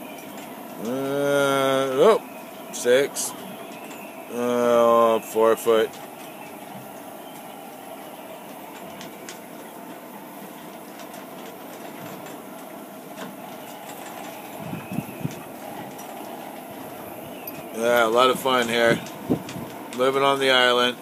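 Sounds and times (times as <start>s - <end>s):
strong wind blowing: 0.0s - 10.9s, 11.6s - 21.0s.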